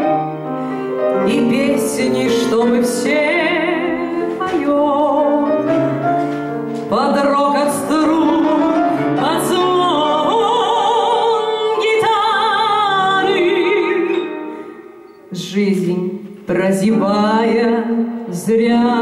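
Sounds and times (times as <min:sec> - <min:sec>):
instrumental accompaniment: 0:00.0 - 0:16.9
woman singing classically: 0:01.2 - 0:06.2, 0:06.8 - 0:14.5, 0:15.3 - 0:19.0.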